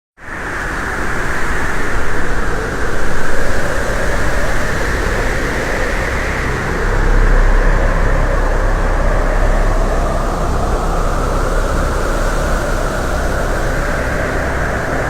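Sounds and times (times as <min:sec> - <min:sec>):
avalanche roaring: 0:00.5 - 0:15.0
deep rumble: 0:00.7 - 0:15.0.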